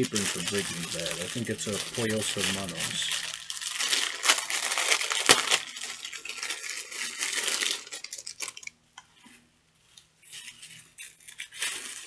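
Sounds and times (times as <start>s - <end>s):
plastic packaging crinkling: 0.0s - 8.8s, 10.3s - 12.0s.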